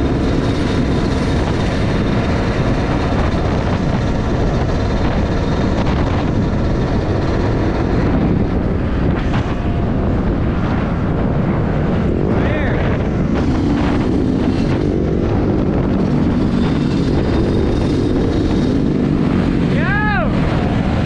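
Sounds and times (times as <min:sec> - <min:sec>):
motorcycle engine and road noise: 0:00.0 - 0:21.0
wind rush over microphone: 0:00.0 - 0:21.0.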